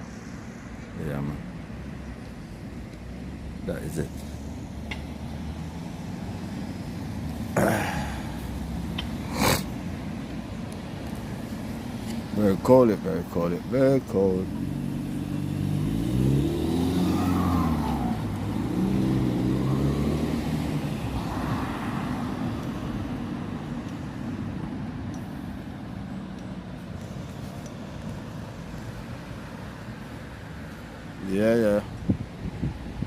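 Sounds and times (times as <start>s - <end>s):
passing vehicle engine: 0.0s - 31.8s
low street rumble: 0.0s - 33.0s.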